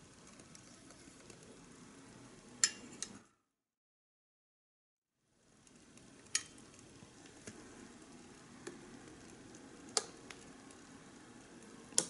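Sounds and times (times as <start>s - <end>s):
pot simmering hiss: 0.0s - 3.4s, 5.2s - 12.0s.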